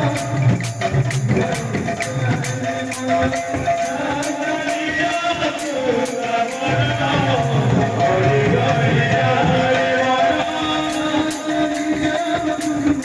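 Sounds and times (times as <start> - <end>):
drums: 0.0 - 13.0
high percussion beat: 0.0 - 13.0
person singing: 0.0 - 13.0.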